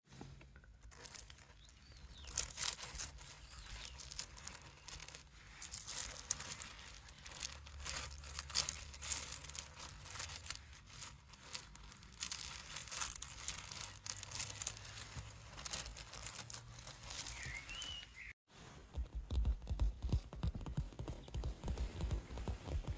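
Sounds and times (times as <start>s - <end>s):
crinkling and rustling material: 0.0s - 22.9s.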